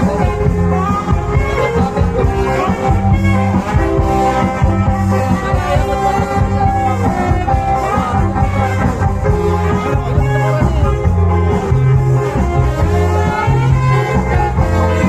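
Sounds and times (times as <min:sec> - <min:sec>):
loud dance music with bass: 0:00.0 - 0:15.0.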